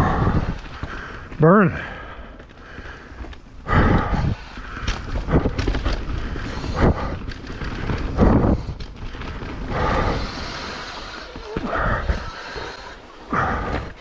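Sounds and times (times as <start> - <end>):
bike jolting over bumps: 0.0 - 14.0
bike tyres rumbling and rattling: 0.0 - 14.0.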